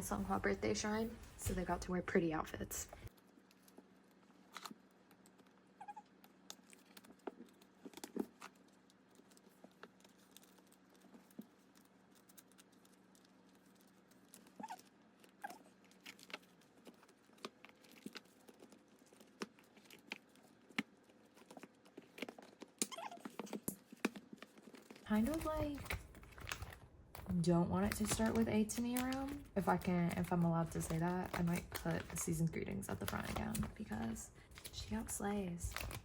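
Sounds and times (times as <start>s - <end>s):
clicks and rustles of plastic sleeves: 2.7s - 36.0s.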